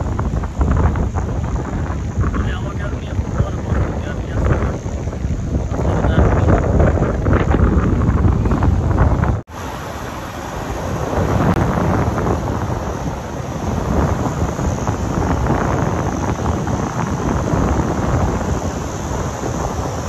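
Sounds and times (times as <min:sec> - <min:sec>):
vehicle driving on sand: 0:00.0 - 0:20.0
wind buffeting microphone: 0:00.0 - 0:20.0.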